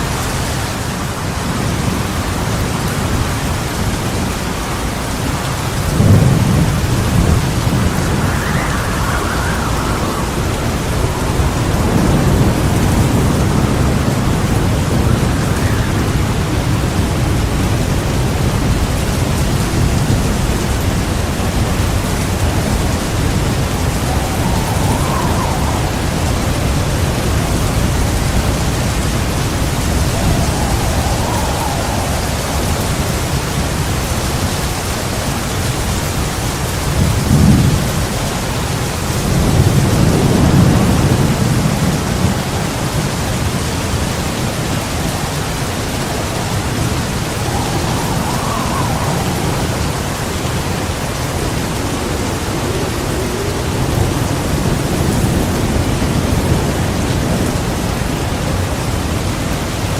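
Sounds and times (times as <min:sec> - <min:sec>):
heavy rain falling: 0:00.0 - 0:59.9
thunder rumbling: 0:01.0 - 0:59.9.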